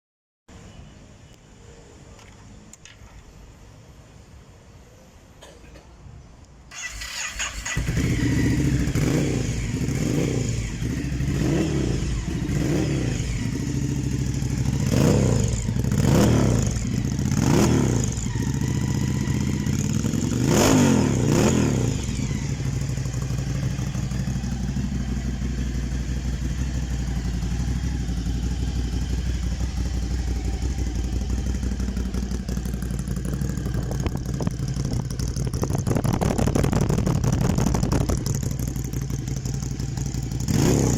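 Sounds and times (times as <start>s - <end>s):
motorcycle engine starting: 6.7s - 40.9s
motorcycle throttle revs: 6.7s - 40.9s
motorcycle engine idling: 6.8s - 20.5s, 21.1s - 40.9s.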